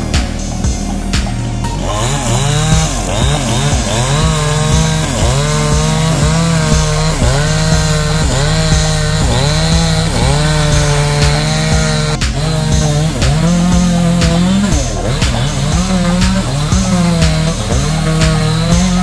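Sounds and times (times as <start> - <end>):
chainsaw cutting wood: 0.1 - 19.0.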